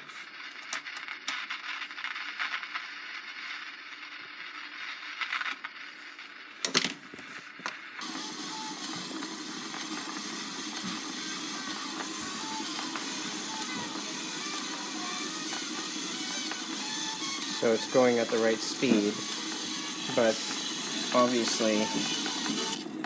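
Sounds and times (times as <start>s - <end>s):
speaker crackle and hiss: 0.0s - 23.0s.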